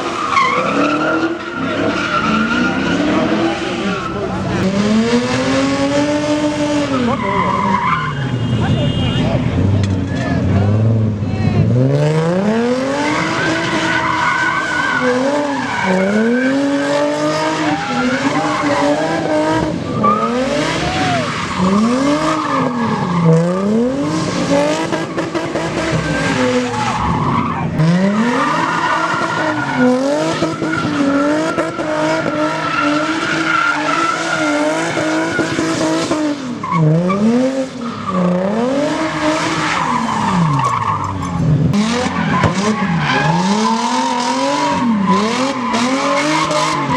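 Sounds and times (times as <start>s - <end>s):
engine revving: 0.0s - 7.6s, 9.3s - 40.6s, 41.7s - 46.9s.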